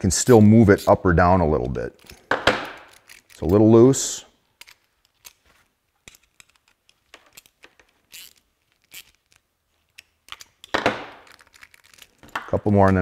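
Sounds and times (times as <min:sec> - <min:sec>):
wrench scraping: 0:00.3 - 0:03.9, 0:04.6 - 0:13.0.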